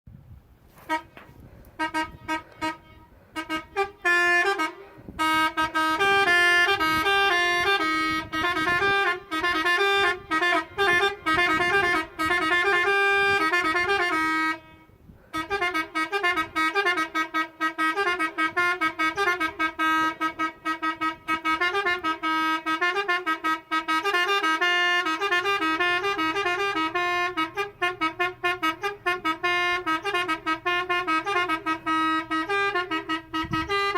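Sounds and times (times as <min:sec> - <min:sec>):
musical car horn playing a tune: 0:00.7 - 0:33.9.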